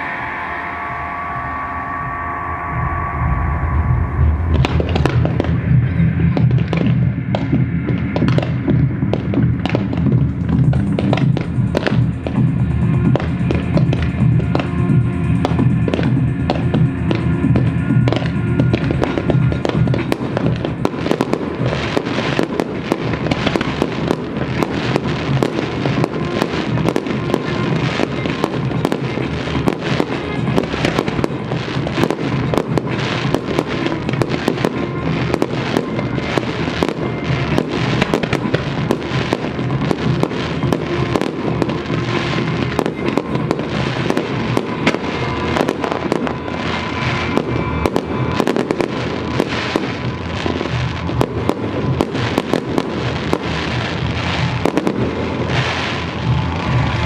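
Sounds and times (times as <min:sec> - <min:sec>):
music playing: 0:00.0 - 0:57.0
fireworks bangs and crackles: 0:02.8 - 0:57.0.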